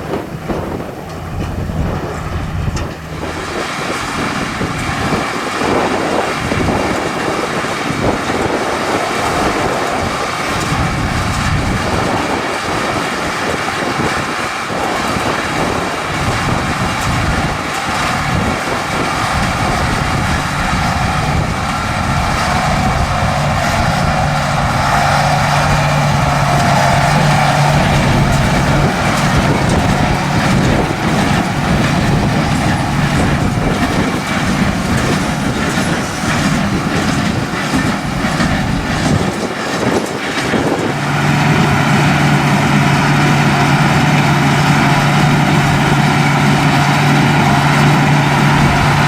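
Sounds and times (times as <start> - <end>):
hay equipment clattering: 0.0 - 49.0
tractor engine: 0.0 - 49.0.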